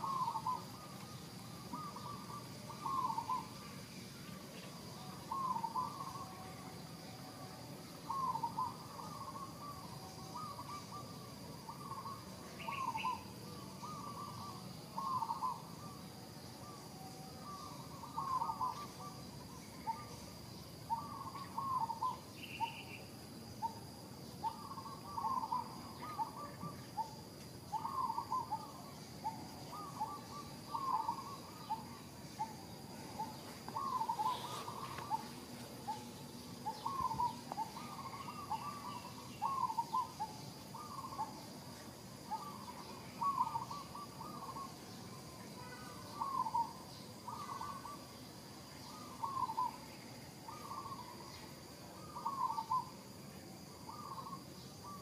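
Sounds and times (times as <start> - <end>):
faint steady high tone: 0.0 - 23.8, 24.4 - 55.0.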